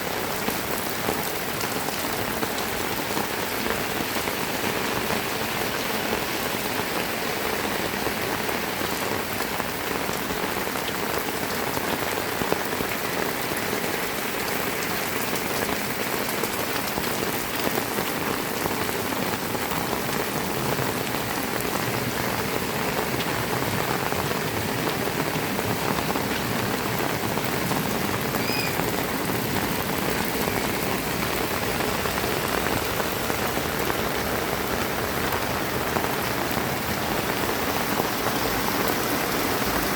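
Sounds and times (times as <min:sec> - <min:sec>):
heavy rain hissing: 0:00.1 - 0:39.9.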